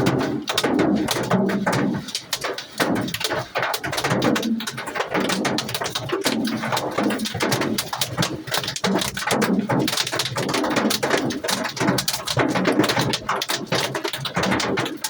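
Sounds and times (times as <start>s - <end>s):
hail clattering on hard surfaces: 0.0s - 15.0s.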